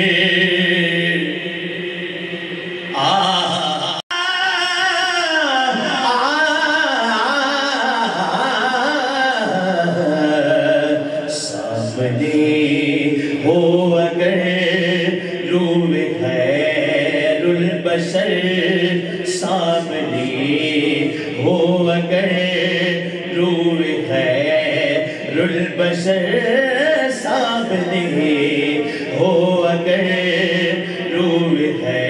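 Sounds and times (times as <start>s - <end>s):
man singing into a microphone: 0.0s - 32.0s.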